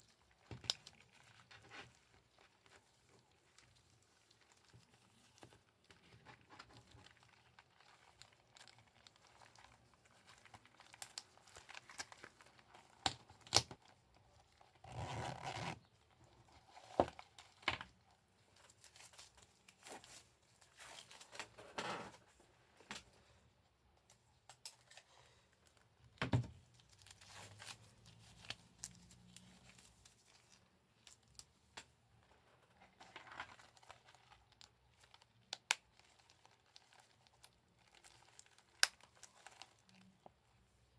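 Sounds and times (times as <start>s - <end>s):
packaging crinkling and rustling: 0.0s - 23.2s, 24.0s - 40.9s.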